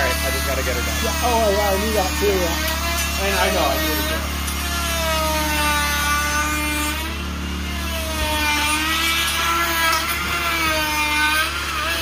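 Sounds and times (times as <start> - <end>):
die grinder whining on wood: 0.0 - 12.0.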